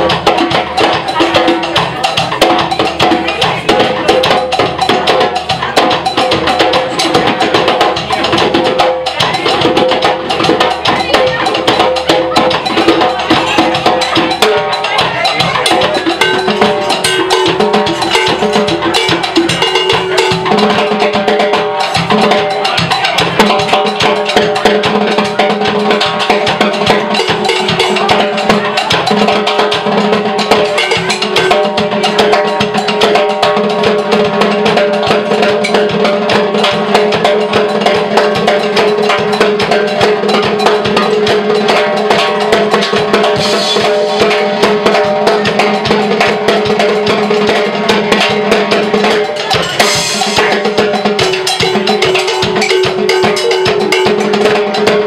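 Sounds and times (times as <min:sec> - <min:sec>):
drum kit: 0:00.0 - 0:55.0
funk band playing: 0:00.0 - 0:55.0
hand percussion: 0:00.0 - 0:55.0.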